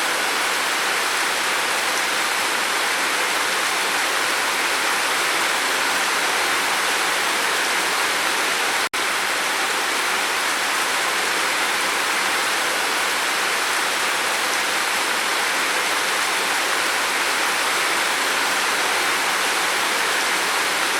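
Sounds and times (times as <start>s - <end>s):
rain on a roof: 0.0s - 20.9s.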